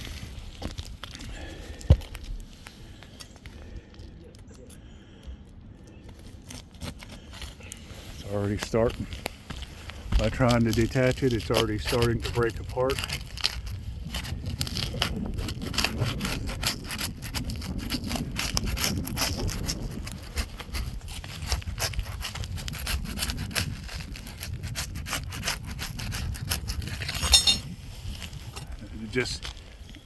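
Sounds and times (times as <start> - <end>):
shingle scraping and rubbing: 0.0 - 4.3, 6.1 - 30.0
brittle shingle crackling: 0.1 - 30.0.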